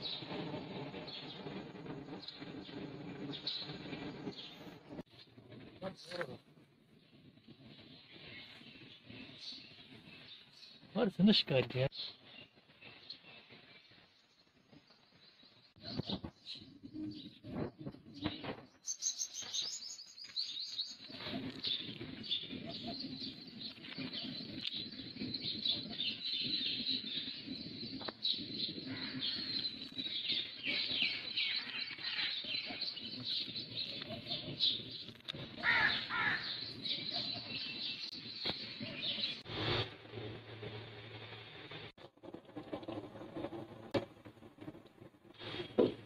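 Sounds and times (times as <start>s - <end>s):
many small birds chirping: 0.0s - 5.1s, 7.0s - 39.5s.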